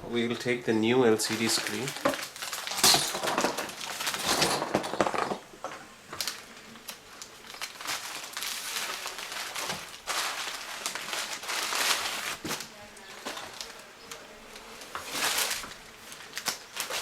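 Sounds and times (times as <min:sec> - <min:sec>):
bubble wrap rustling and crinkling: 0:01.0 - 0:17.0.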